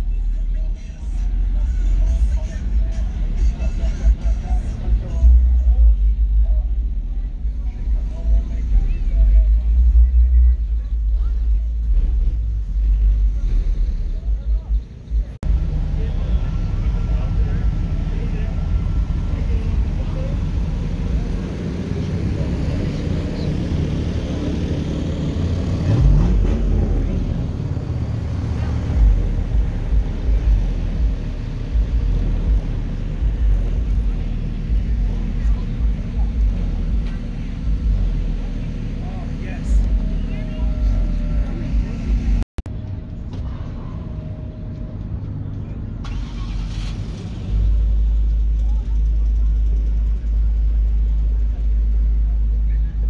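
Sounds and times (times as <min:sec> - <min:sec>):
car engine revving: 0:00.0 - 0:53.0
low engine rumble: 0:00.0 - 0:53.0.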